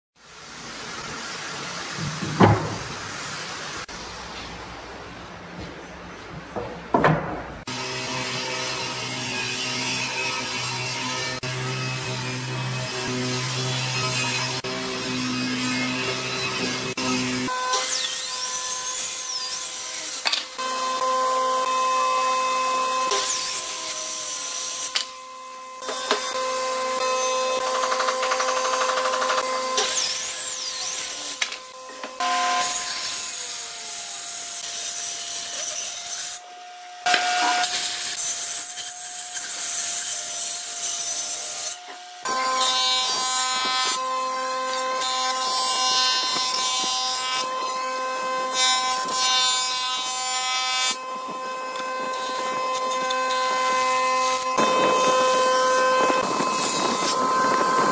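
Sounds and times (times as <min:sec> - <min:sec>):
circular saw cutting board: 0:07.6 - 0:57.9.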